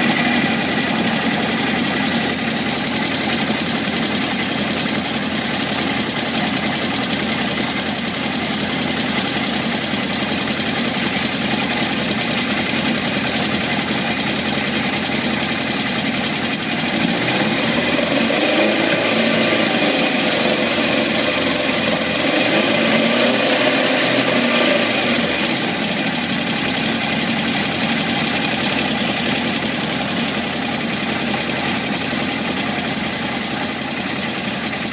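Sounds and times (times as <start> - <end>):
motorcycle engine running with a rattle: 0.0 - 34.9.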